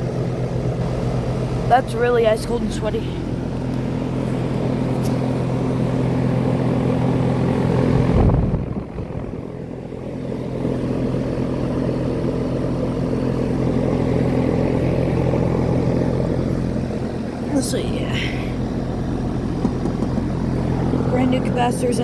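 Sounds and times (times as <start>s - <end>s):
compressor electrical hum: 0.0s - 22.0s
condenser fan rushing: 0.0s - 22.0s.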